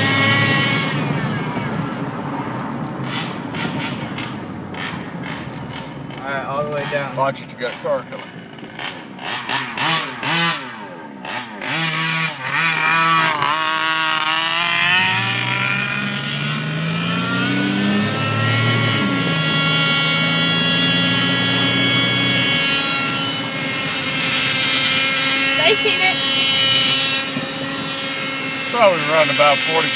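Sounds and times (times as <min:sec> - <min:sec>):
two-stroke engine revving: 0:00.0 - 0:29.9.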